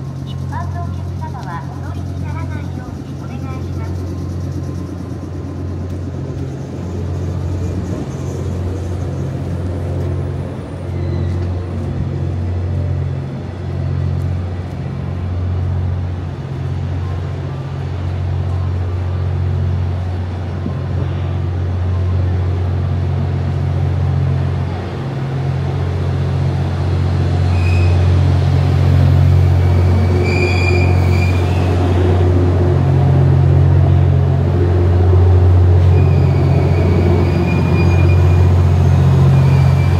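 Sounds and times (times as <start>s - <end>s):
train diesel generators humming: 0.0s - 39.9s.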